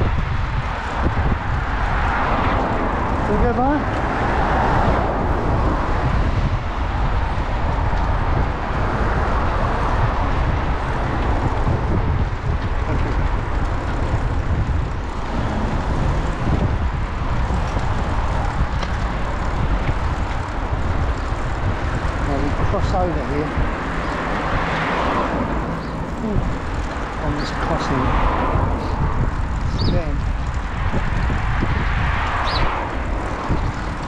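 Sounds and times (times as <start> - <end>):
cars passing on road: 0.0 - 34.0
constant low rumble: 0.0 - 34.0.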